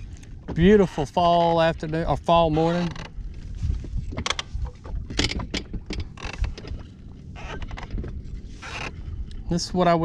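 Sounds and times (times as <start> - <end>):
water knocking against hull: 0.0 - 9.4
steady low rumble: 0.0 - 10.0.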